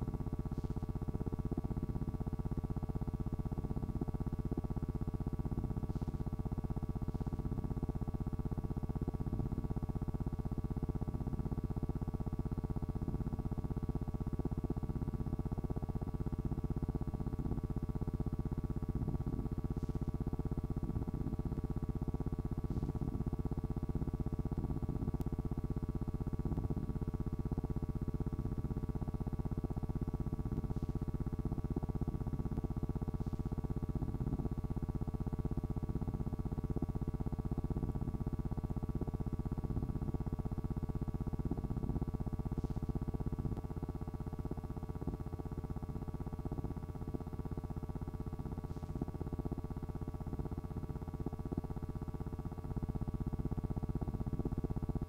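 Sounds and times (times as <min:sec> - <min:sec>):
electrical hum with hiss: 0:00.0 - 0:55.0.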